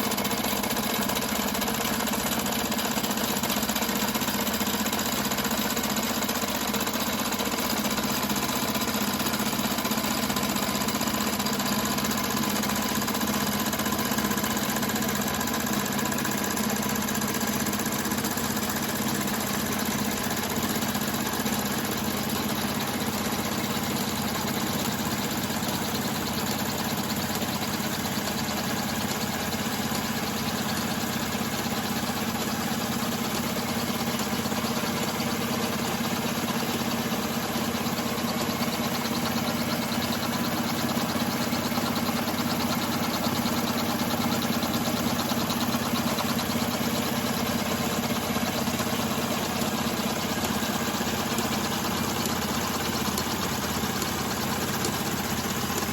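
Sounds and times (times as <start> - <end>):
model engines humming and rattling: 0.0 - 55.9.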